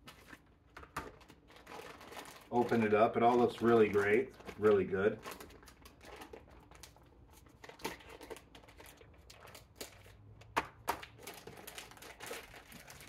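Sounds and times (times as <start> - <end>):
plastic bag crinkling: 0.0 - 13.0
sharp plastic crackles: 0.0 - 13.0.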